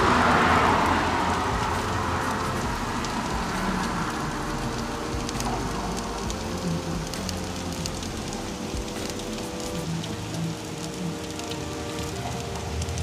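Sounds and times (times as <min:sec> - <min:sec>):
fish sizzling in hot oil: 0:00.0 - 0:13.0
low hum: 0:00.0 - 0:13.0.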